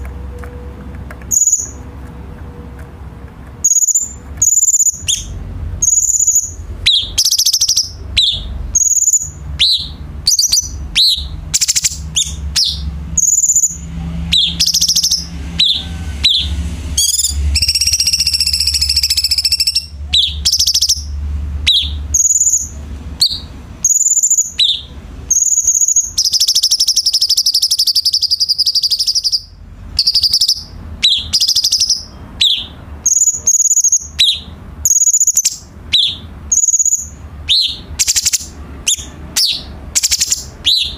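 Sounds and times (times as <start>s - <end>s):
songbird whistling: 1.2s - 1.8s, 3.6s - 40.9s
buzzing bird trill: 3.6s - 40.9s.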